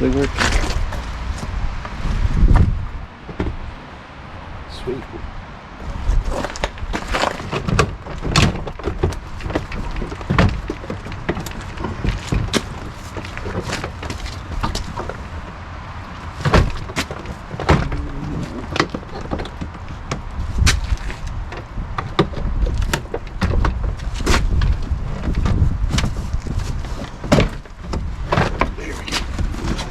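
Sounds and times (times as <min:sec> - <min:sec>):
low rumbling handling noise: 0:00.0 - 0:29.9.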